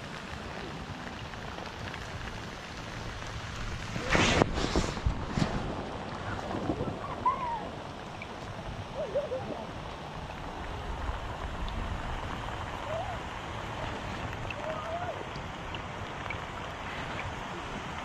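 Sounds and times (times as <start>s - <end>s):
rain falling on river: 0.0s - 18.0s.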